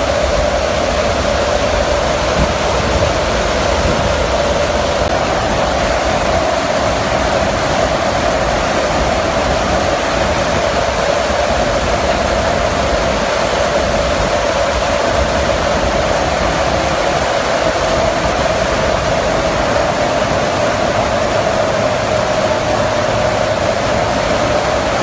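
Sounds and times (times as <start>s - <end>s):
aircraft engine drone: 0.0s - 25.0s
constant hum: 0.0s - 25.0s
wind rushing: 0.0s - 25.0s.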